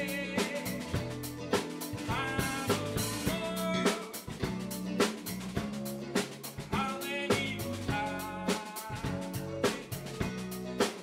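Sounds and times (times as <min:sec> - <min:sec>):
drum kit beat: 0:00.0 - 0:11.0
electric bass: 0:00.0 - 0:11.0
electric guitar: 0:00.0 - 0:11.0.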